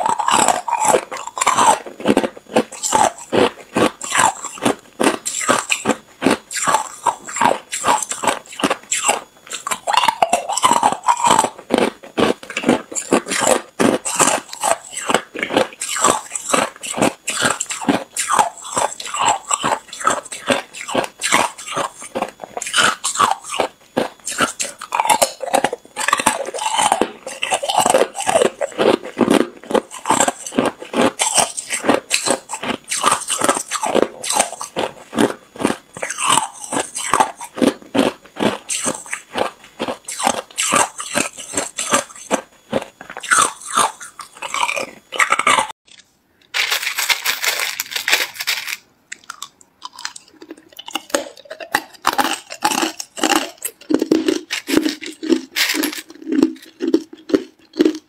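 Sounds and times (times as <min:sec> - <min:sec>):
ice cubes crunched between teeth: 0:00.0 - 0:58.0.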